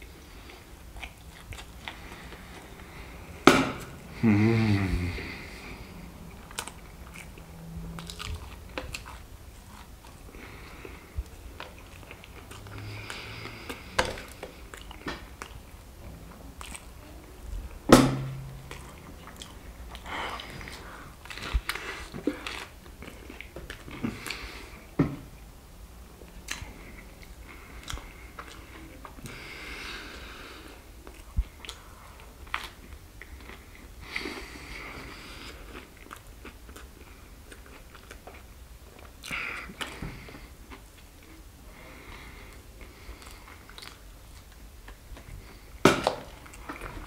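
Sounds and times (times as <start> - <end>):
wet chewing of food: 0.0 - 25.3, 26.2 - 47.0.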